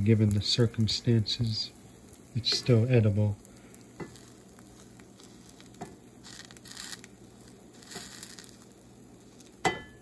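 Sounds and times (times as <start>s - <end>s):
pancakes sizzling in oil: 0.0s - 10.0s.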